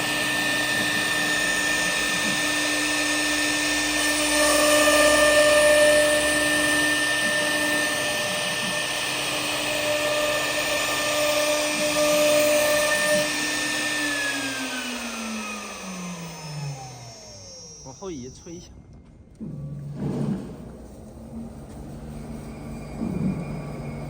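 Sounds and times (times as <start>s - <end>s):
router spindle whine: 0.0s - 19.6s.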